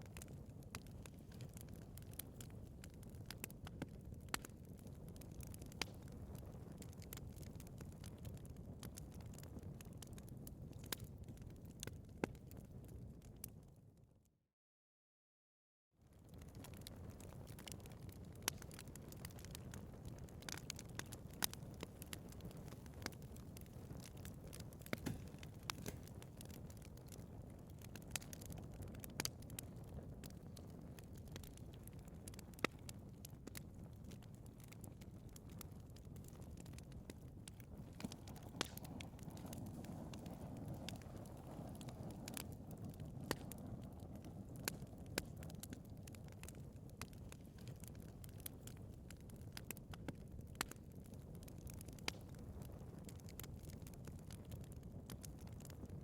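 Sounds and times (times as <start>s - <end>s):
burning logs crackling and popping: 0.0s - 13.8s, 16.0s - 56.0s
rumble of fire flames: 0.0s - 13.8s, 16.0s - 56.0s.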